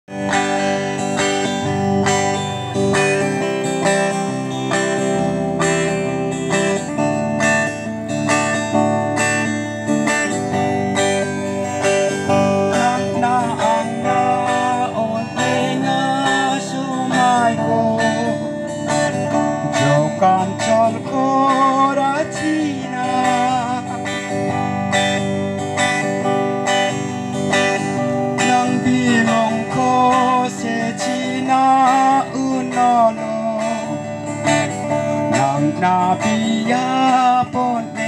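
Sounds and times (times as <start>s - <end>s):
amplified guitar strumming: 0.1s - 38.0s.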